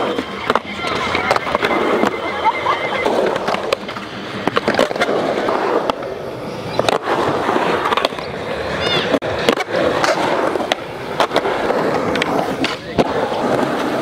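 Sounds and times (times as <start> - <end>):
skateboard wheels rumbling: 0.0 - 14.0
skateboards clacking on concrete: 0.0 - 14.0.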